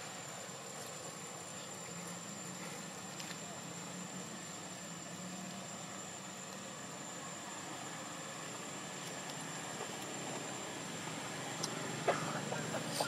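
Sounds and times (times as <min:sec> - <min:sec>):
hum and hiss: 0:00.0 - 0:13.0.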